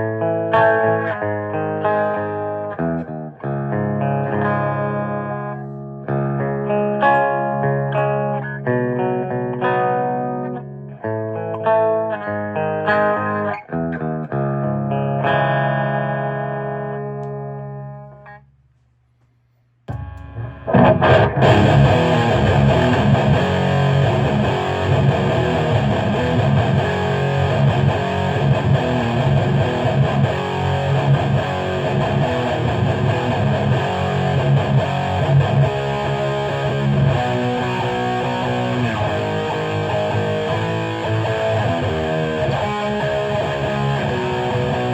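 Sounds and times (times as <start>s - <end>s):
electric guitar notes and chords: 0.0s - 18.4s, 19.9s - 44.9s
distorted guitar riffing: 0.0s - 18.5s, 19.9s - 44.9s.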